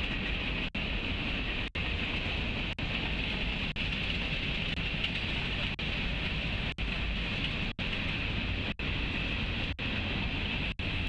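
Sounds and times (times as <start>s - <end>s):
freight train cars rolling past: 0.0s - 11.0s.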